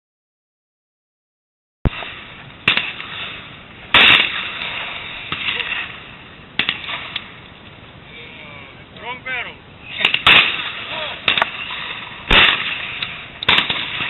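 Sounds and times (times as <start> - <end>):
steady hiss: 1.9 - 14.0.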